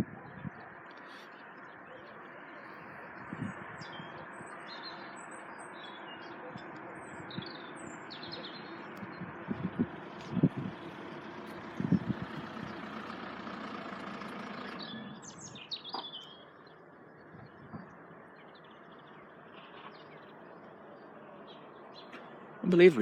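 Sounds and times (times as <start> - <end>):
small birds chirping: 0.0 - 23.0
vehicle rumble: 0.0 - 23.0.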